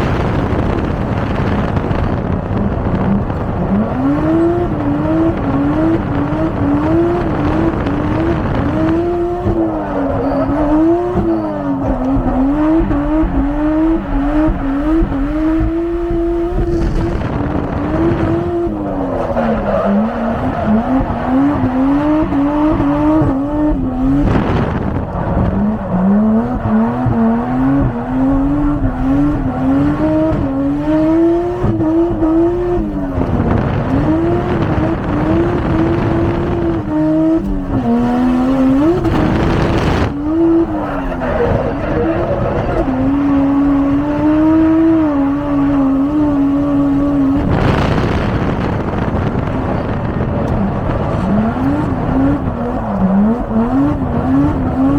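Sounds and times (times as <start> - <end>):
car engine revving high: 0.0 - 54.9
tires squealing: 0.0 - 54.9.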